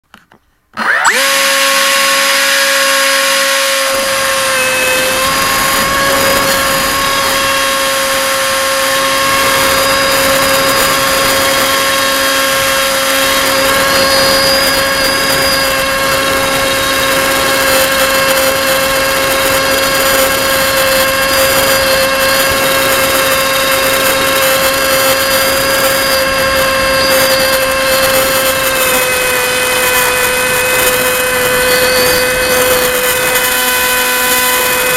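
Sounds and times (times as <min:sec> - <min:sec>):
electric motor and propeller whine: 0:00.7 - 0:34.9.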